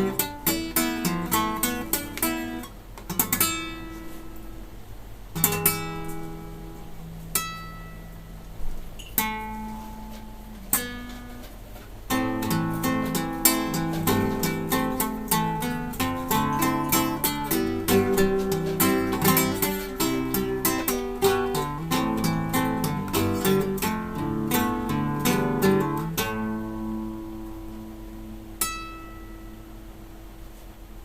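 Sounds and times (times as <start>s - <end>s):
acoustic guitar plucking: 0.0s - 30.3s.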